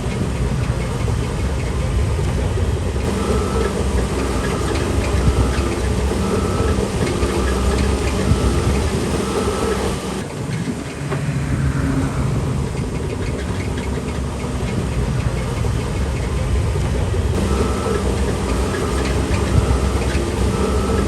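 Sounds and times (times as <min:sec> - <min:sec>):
heavy diesel engine running: 0:00.0 - 0:11.2, 0:12.1 - 0:21.0.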